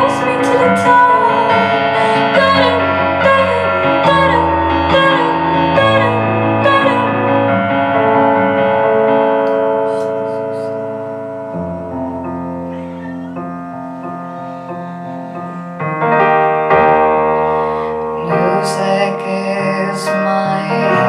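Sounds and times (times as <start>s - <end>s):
keyboard held chords: 0.0s - 21.0s.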